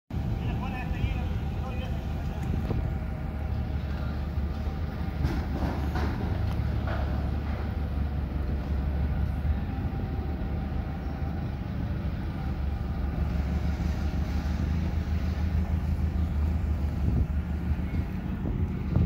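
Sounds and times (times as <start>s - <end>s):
forklift engine humming: 0.1s - 19.0s.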